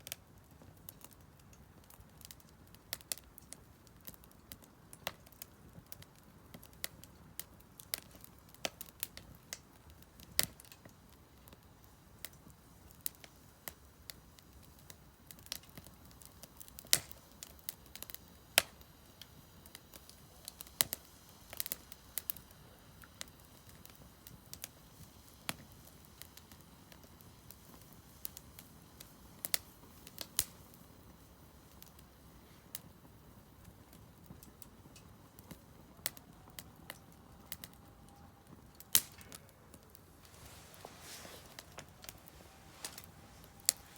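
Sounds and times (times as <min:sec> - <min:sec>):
firewood crackling and popping: 0:00.0 - 0:43.9.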